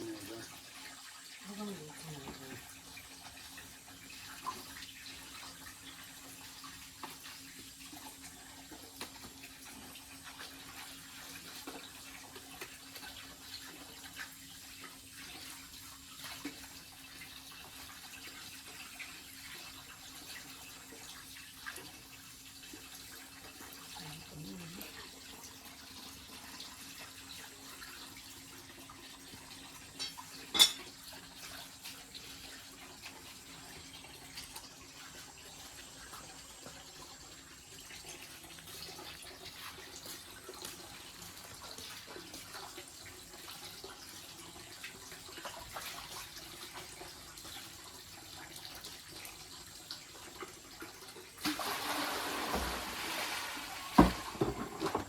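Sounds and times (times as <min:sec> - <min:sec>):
water running: 0:00.0 - 0:55.0.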